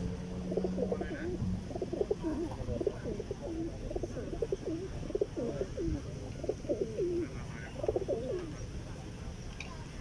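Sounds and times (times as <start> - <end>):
pigeons cooing: 0.0 - 8.6.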